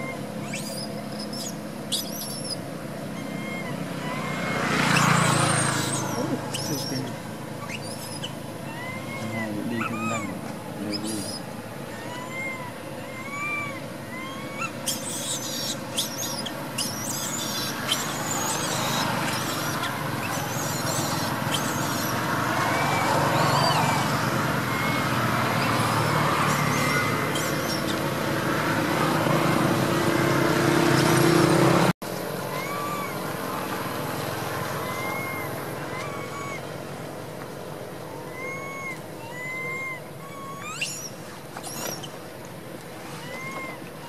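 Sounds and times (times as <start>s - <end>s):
infant monkey crying: 0.0s - 28.4s, 32.4s - 33.8s, 34.6s - 37.3s, 37.9s - 42.2s, 43.0s - 44.0s.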